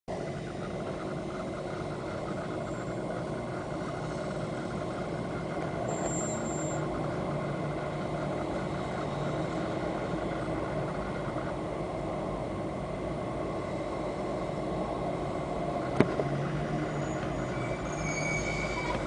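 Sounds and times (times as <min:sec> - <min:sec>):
faint high whine: 0:00.1 - 0:19.0
mechanical hum and rumble: 0:00.1 - 0:19.0.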